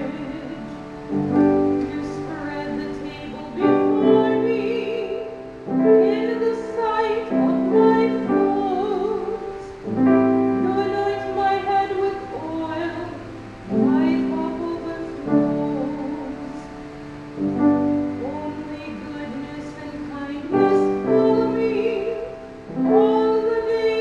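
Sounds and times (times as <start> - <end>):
piano chords: 0.0 - 24.0
woman singing: 0.0 - 24.0.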